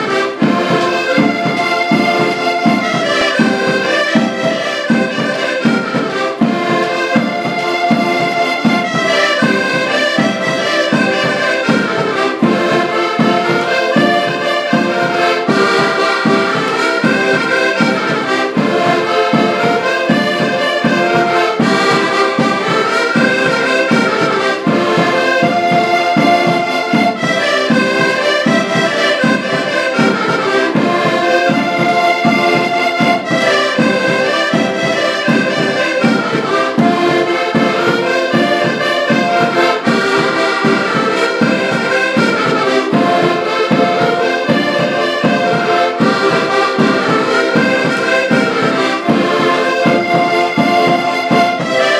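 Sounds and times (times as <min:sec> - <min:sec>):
accordions playing a tune: 0:00.0 - 0:51.9.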